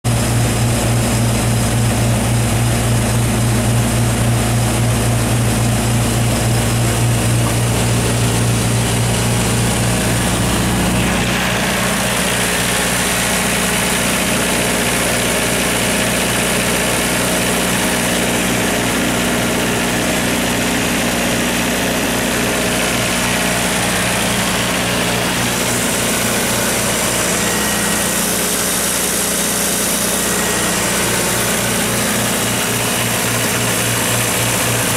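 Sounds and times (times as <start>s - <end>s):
diesel generator running: 0.0s - 34.9s.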